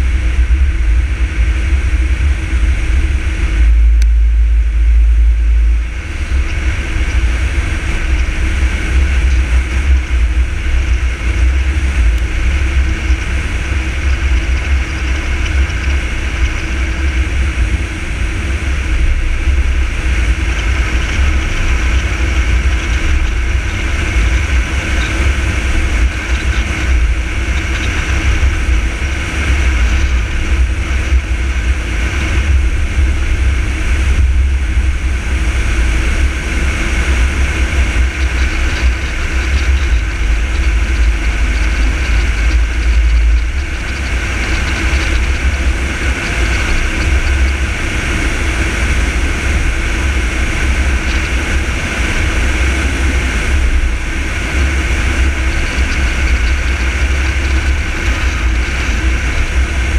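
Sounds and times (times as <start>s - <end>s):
car engine and tyre noise: 0.0s - 59.9s
fluttering low rumble: 0.0s - 59.9s.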